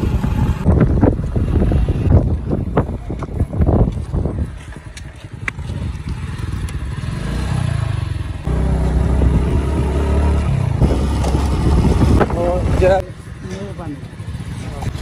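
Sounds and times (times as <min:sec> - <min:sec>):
wind noise on microphone: 0:00.0 - 0:07.5, 0:08.4 - 0:13.0
motorcycle engine running: 0:00.0 - 0:15.0.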